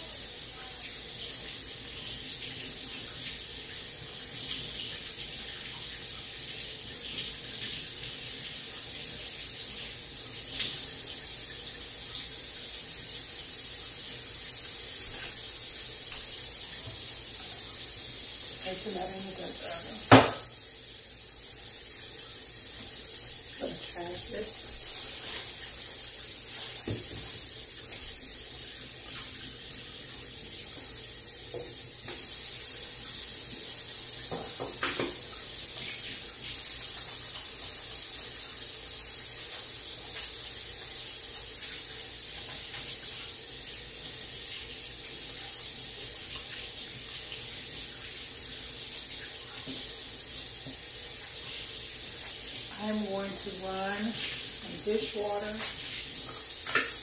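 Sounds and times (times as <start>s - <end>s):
tap water pouring into sink: 0.0s - 57.0s.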